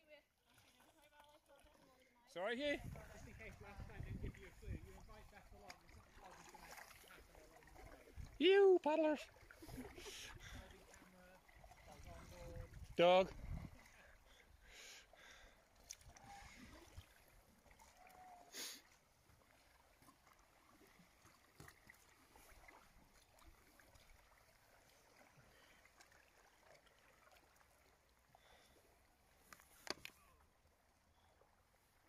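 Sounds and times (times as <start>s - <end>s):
soft splashes: 0.1s - 32.0s
paddle strokes in water: 0.3s - 2.1s, 2.8s - 32.0s.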